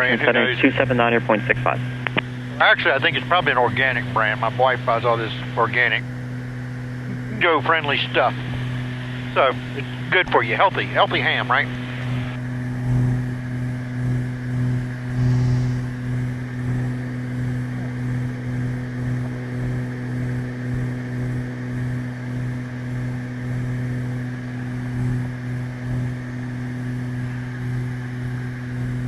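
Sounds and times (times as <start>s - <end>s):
twin propeller engines droning: 0.0s - 29.0s.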